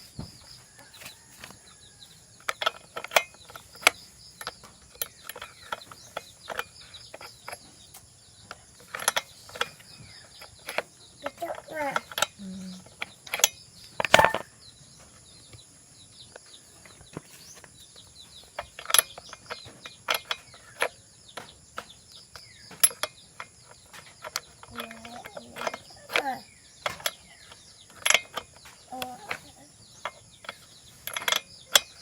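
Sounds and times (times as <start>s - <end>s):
insect drone: 0.0s - 32.0s
small tools clicking and knocking: 0.2s - 32.0s.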